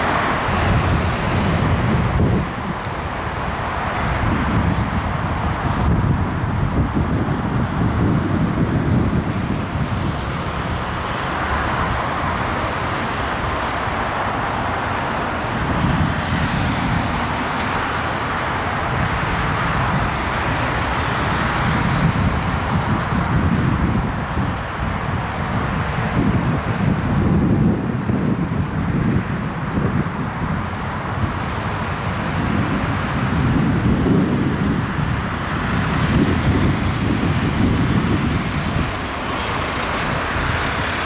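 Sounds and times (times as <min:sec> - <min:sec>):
cars passing: 0:00.0 - 0:41.0
heavy truck passing: 0:00.0 - 0:41.0.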